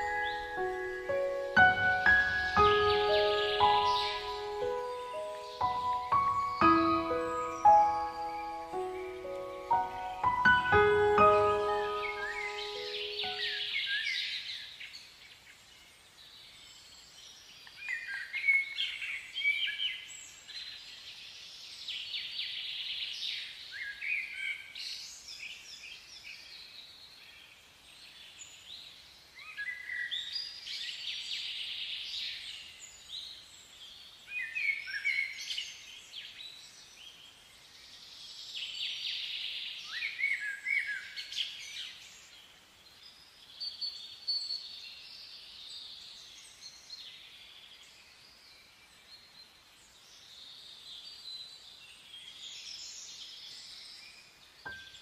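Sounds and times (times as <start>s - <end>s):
background hiss: 0.0s - 55.0s
songbirds chirping: 0.0s - 55.0s.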